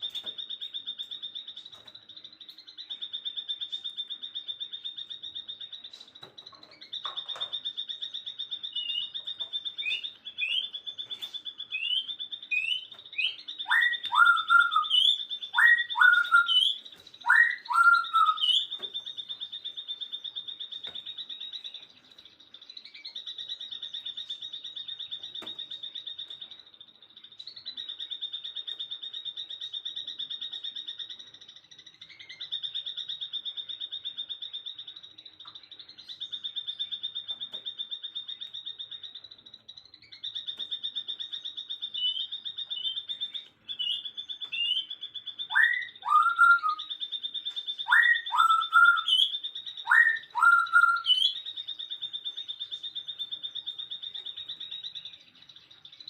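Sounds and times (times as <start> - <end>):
birds calling: 0.0 - 56.0
loud two-part bird calls: 0.0 - 56.0.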